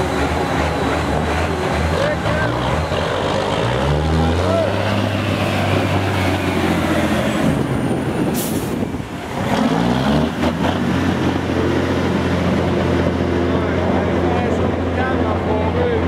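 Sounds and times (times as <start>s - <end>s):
diesel truck engine revving: 0.0s - 16.0s.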